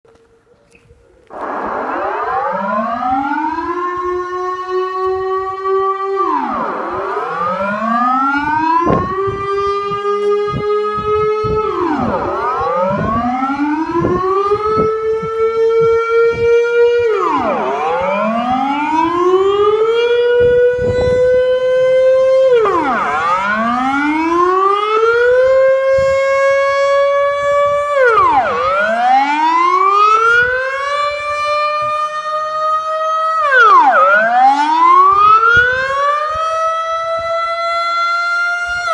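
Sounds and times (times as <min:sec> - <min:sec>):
civil defence siren wailing: 0:00.1 - 0:38.9.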